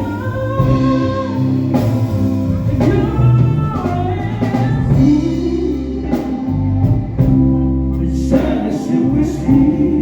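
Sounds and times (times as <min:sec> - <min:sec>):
drum kit: 0:00.0 - 0:10.0.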